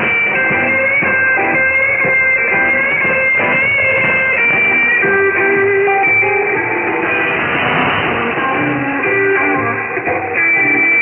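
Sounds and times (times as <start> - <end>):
music on am radio: 0.0 - 11.0.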